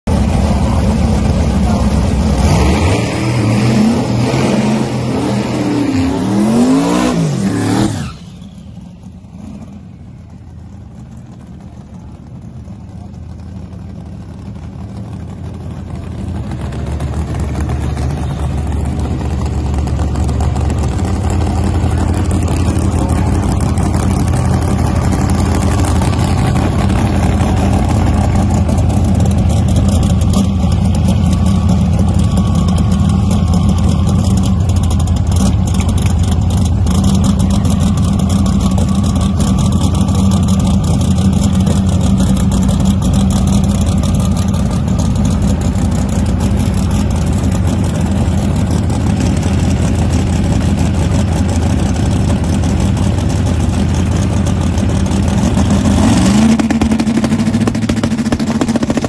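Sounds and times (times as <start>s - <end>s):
race car engine idling: 0.0s - 5.1s, 8.1s - 59.0s.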